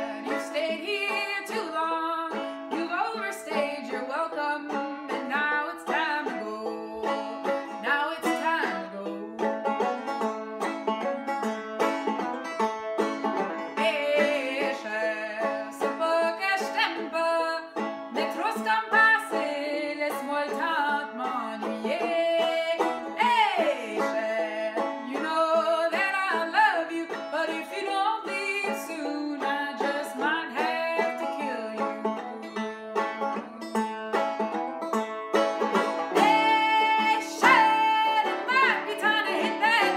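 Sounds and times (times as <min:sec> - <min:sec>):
woman singing: 0:00.0 - 0:09.6, 0:13.7 - 0:33.7, 0:36.1 - 0:39.9
banjo playing: 0:00.0 - 0:39.9.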